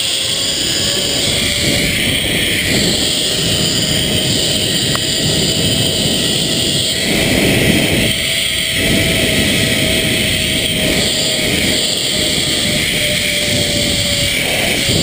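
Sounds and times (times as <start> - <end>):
pulley whirring on steel cable: 0.0 - 15.0
wind rushing on microphone: 0.0 - 15.0.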